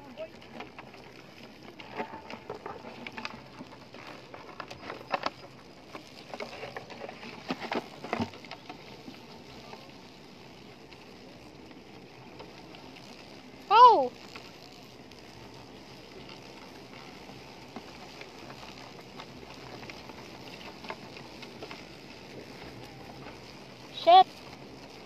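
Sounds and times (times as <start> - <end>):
beetles clicking and crackling: 0.0 - 25.0.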